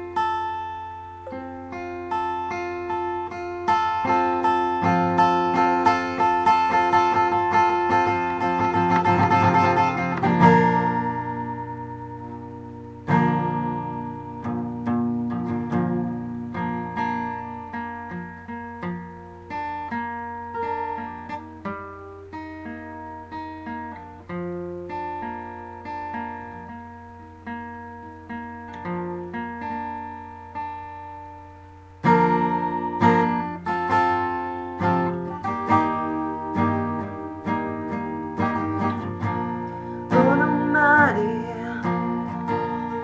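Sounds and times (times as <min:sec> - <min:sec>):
acoustic guitar playing: 0:00.0 - 0:43.0.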